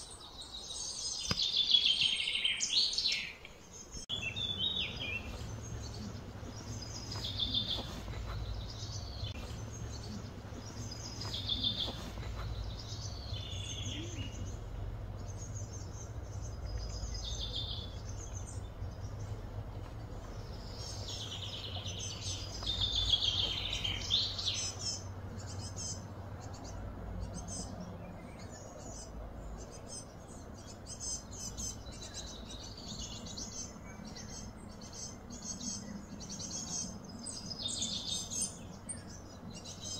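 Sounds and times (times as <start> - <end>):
birds chirping: 0.0 - 39.9
low steady hum: 3.4 - 39.9.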